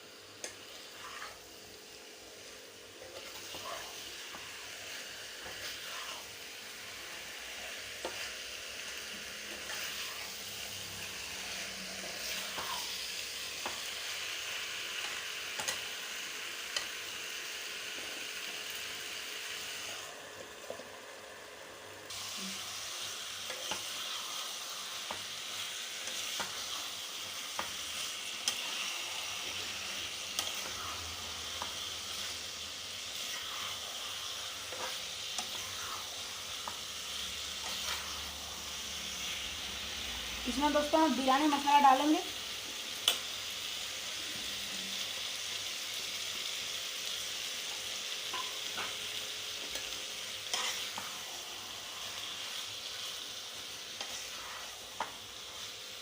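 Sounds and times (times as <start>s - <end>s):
chicken sizzling in a pan: 0.0s - 56.0s.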